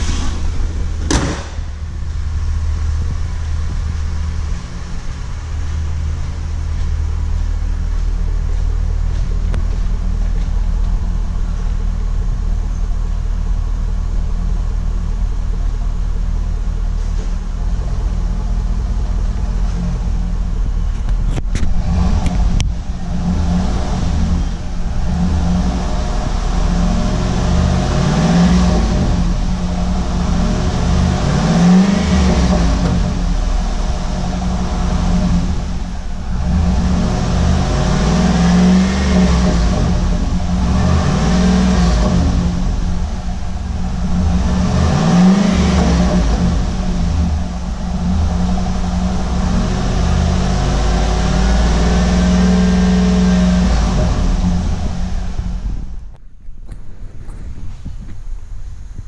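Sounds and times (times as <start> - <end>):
car engine revving: 0.0 - 56.2.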